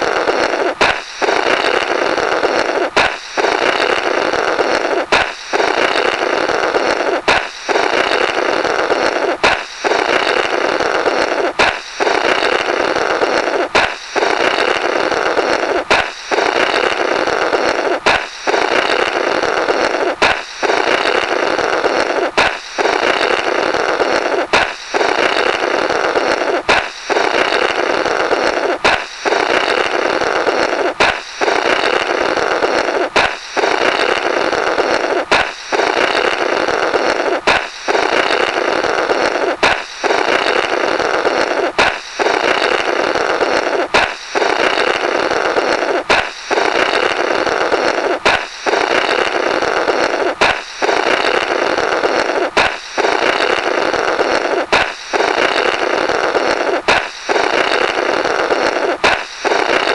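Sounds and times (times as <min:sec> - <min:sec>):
balloon popping: 0:00.0 - 0:59.9
raspy buzzing blow through rubber: 0:00.0 - 0:59.9.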